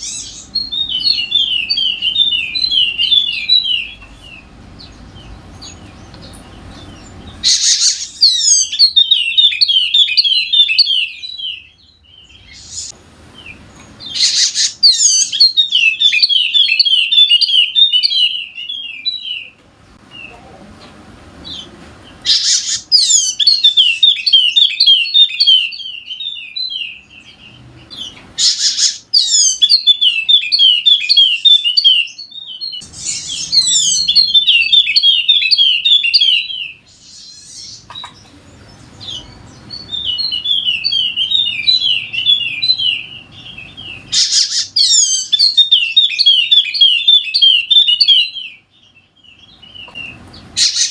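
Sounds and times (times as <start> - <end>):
bird singing high chirps: 0.0 - 20.4, 21.4 - 50.9.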